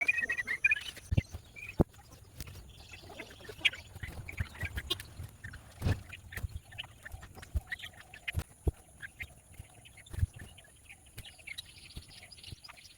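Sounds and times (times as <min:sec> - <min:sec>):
birds tapping and knocking: 0:00.8 - 0:12.8.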